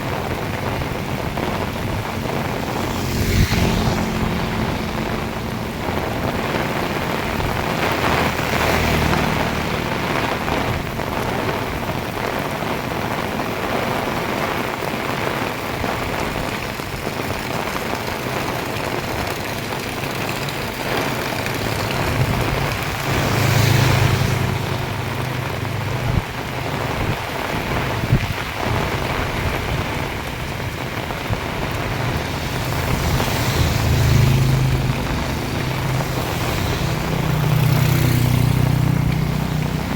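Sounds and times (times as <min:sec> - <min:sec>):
heavy rain falling: 0:00.0 - 0:39.9
passing vehicle engine hum: 0:00.2 - 0:12.6, 0:18.3 - 0:28.0, 0:29.0 - 0:39.9.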